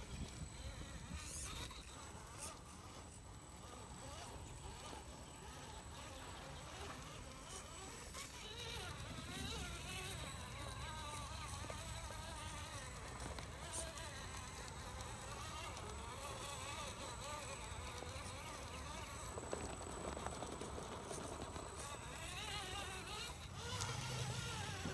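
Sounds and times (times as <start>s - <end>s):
electric motor and gears whining: 0.0s - 24.9s.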